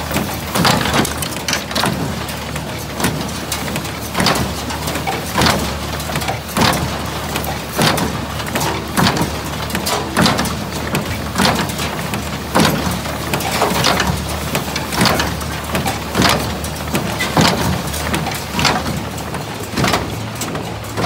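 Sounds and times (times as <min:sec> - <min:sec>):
baler mechanism clanking: 0:00.0 - 0:21.0.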